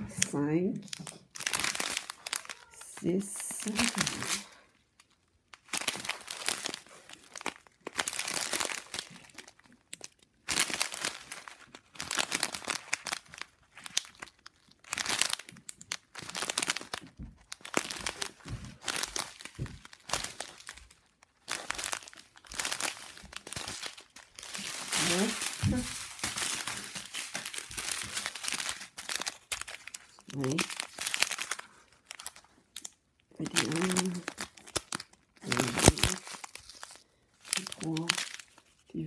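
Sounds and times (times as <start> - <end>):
plastic bags crinkling: 0.0 - 39.0.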